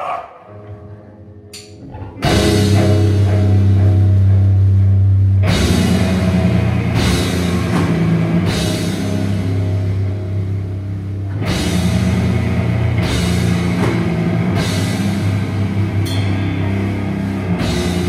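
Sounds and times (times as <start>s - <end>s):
metal band playing loud: 0.0s - 18.0s.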